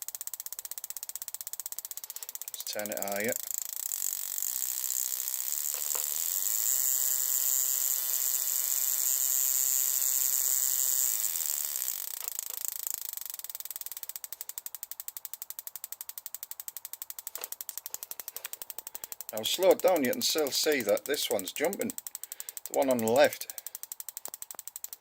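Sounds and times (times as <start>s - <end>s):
spark tester whine: 0.0s - 25.0s
snapping sparks: 0.1s - 25.0s.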